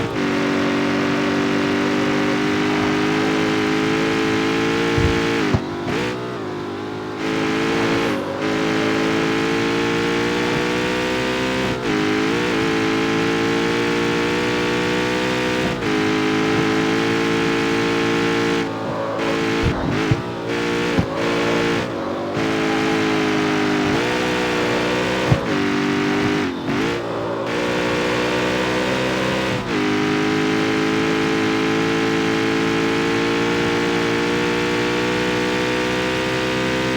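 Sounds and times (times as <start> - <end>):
car engine and exhaust: 0.0 - 36.9.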